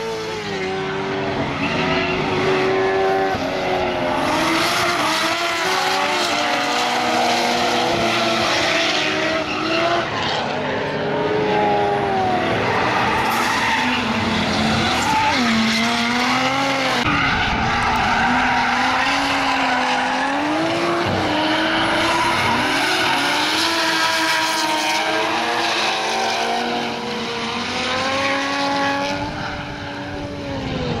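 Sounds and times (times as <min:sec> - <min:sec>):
car engines at high revs: 0:00.0 - 0:31.0.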